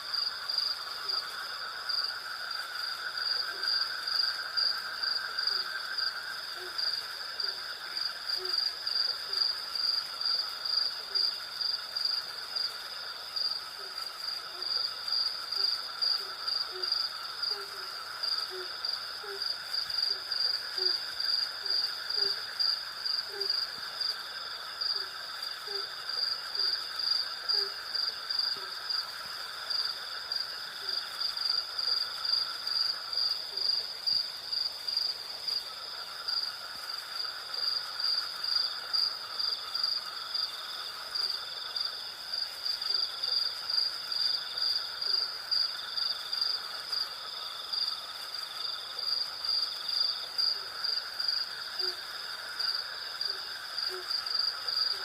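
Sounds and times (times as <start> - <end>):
crickets chirping: 0.0 - 55.0
insect drone: 0.0 - 55.0.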